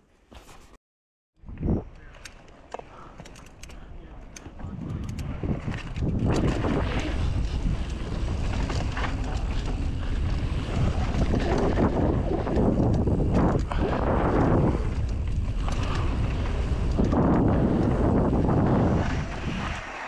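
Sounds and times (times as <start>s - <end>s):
wind buffeting microphone: 3.4s - 19.9s.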